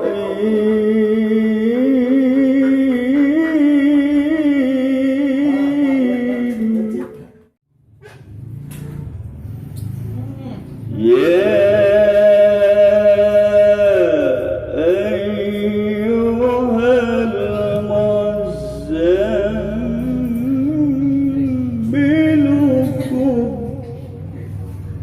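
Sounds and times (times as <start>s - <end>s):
man chanting recitation: 0.0s - 7.5s, 10.9s - 25.0s.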